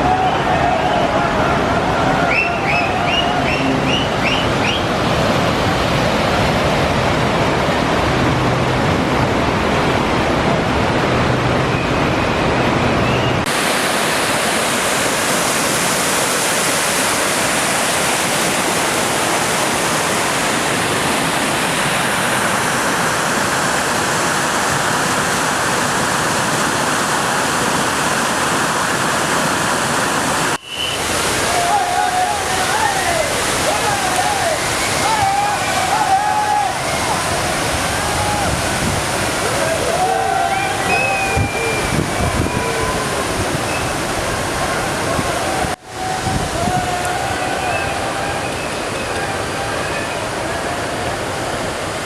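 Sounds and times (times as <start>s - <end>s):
water rushing over rapids: 0.0s - 52.0s.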